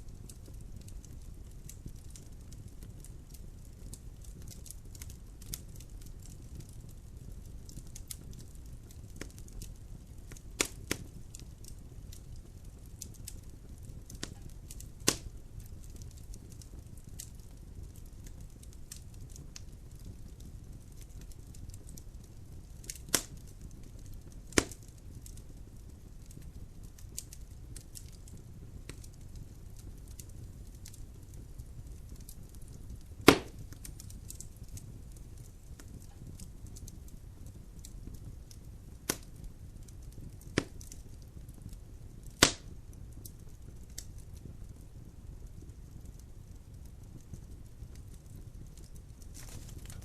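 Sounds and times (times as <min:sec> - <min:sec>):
burning logs popping and cracking: 0:00.0 - 0:50.0
low rumble of fire: 0:00.0 - 0:50.0
small ticks of fire: 0:00.0 - 0:50.0.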